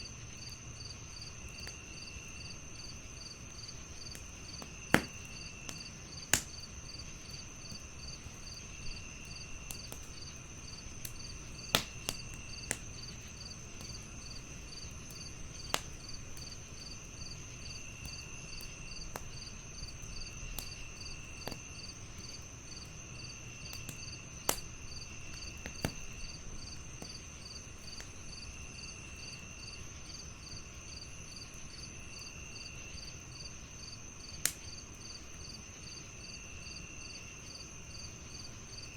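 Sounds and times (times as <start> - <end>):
crickets chirping: 0.0 - 38.9
wood fire crackling: 0.0 - 38.9
high insect trill: 0.1 - 38.9.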